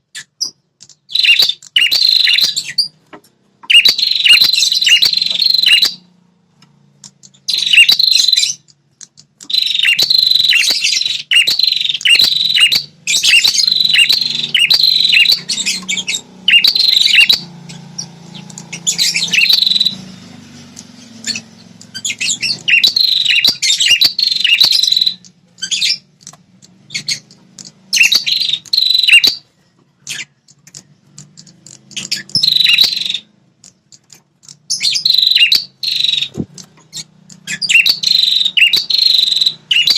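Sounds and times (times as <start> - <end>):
bird singing rapid high chirps: 0.0 - 39.9.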